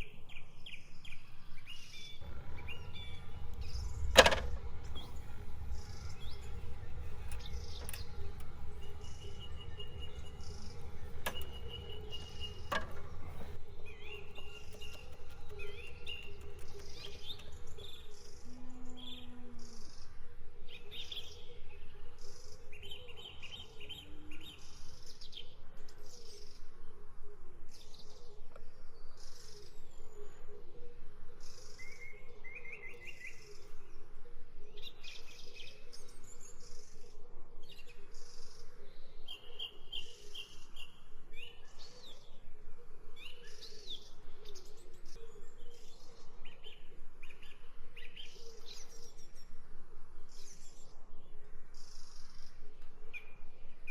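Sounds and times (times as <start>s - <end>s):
forest birds chirping: 0.0s - 27.0s, 27.7s - 53.9s.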